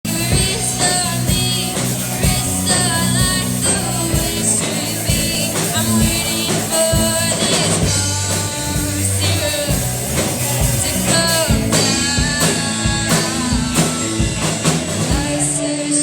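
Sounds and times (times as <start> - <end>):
rock and roll music with singing: 0.0 - 16.0.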